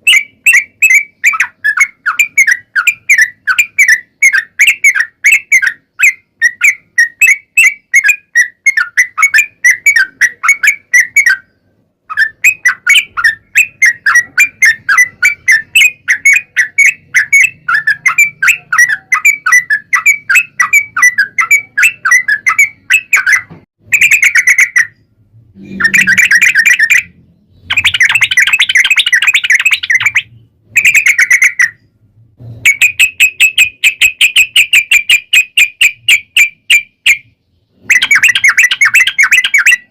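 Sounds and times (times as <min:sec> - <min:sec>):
bulbul chirping song: 0:00.0 - 0:32.0, 0:32.6 - 0:39.9.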